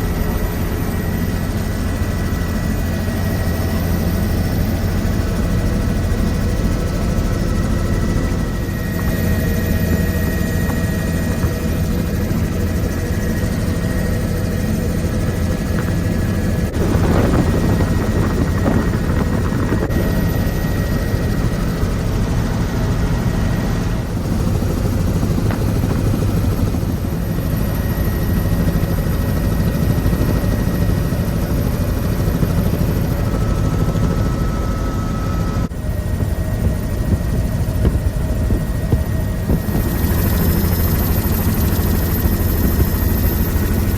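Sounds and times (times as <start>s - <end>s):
helicopter rotor and engine drone: 0.0s - 43.9s.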